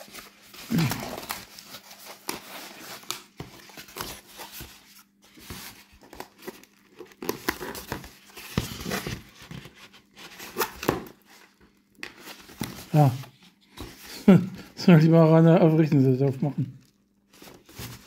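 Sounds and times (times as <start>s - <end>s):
cardboard crinkling and tearing: 0.0s - 14.0s, 17.2s - 18.0s.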